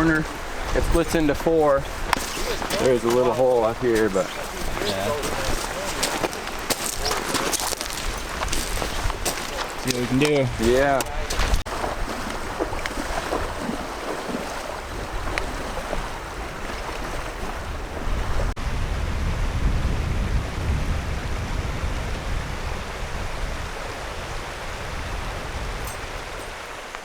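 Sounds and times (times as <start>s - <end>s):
river rushing: 0.0s - 18.6s, 22.5s - 27.0s
wind buffeting microphone: 0.0s - 27.0s.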